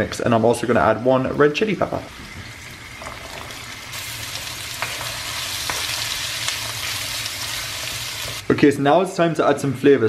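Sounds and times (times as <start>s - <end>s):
peppers sizzling in wok: 0.0s - 8.5s.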